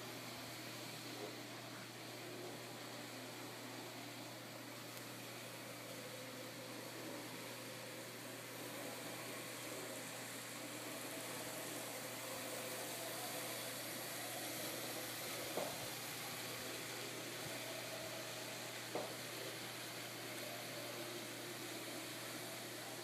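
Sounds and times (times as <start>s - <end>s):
model train motor whir: 0.0s - 23.0s.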